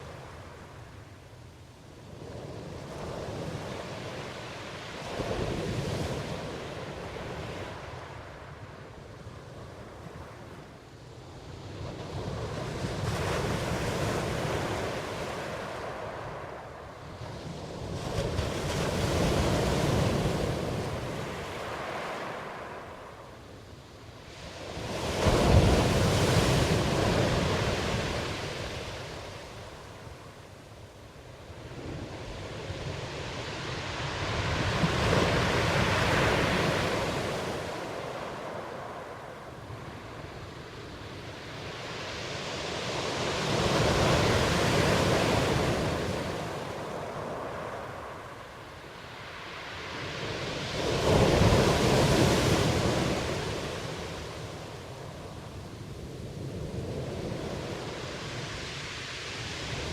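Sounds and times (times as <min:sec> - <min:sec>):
ocean waves breaking: 0:11.8 - 0:59.9.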